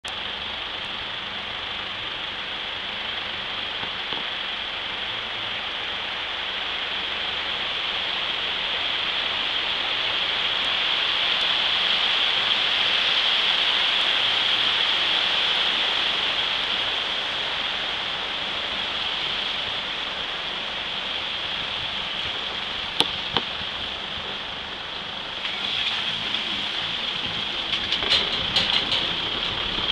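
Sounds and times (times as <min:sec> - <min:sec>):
water splashing around wheels: 0:00.0 - 0:29.9.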